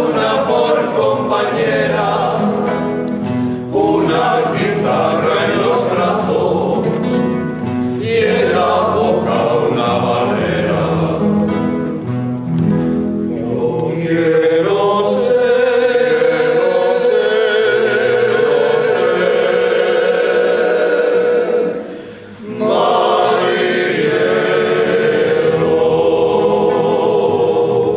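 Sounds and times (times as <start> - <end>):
choir singing slow song: 0.0 - 12.1, 13.3 - 27.9.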